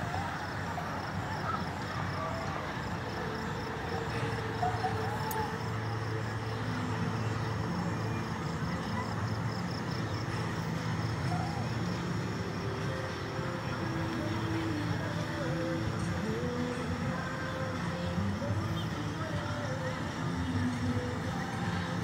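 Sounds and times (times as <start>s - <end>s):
faint far-off voices: 0.0s - 22.0s
low hum of machinery and traffic: 0.0s - 22.0s.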